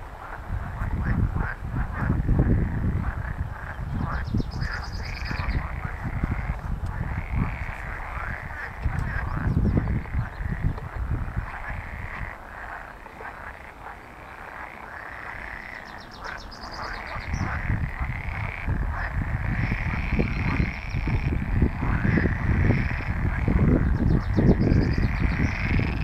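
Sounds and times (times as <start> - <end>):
frogs croaking in chorus: 0.2 - 26.0.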